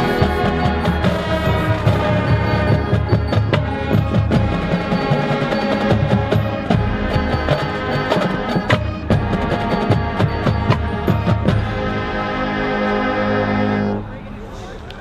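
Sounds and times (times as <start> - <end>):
marching band playing: 0.0 - 14.8.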